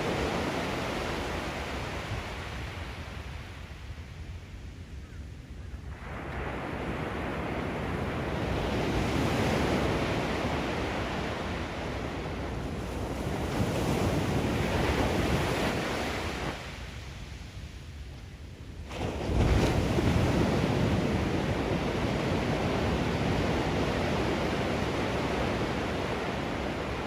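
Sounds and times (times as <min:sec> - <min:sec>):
ocean surf washing up beach: 0:00.0 - 0:04.0, 0:05.9 - 0:17.6, 0:18.7 - 0:27.0.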